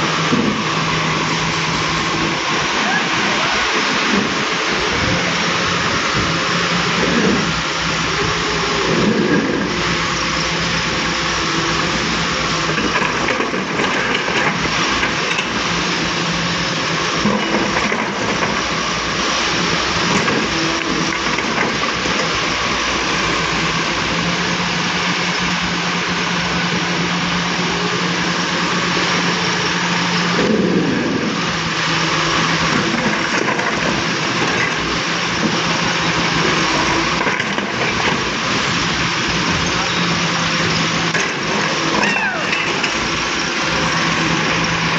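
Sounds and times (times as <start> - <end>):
excavator diesel engine running: 0.0 - 44.9
hydraulic noise: 0.0 - 44.9.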